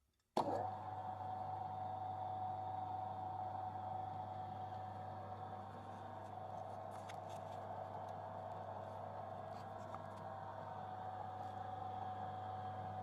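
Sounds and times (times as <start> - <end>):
lathe motor whine: 0.4 - 13.0
low hum: 0.8 - 13.0.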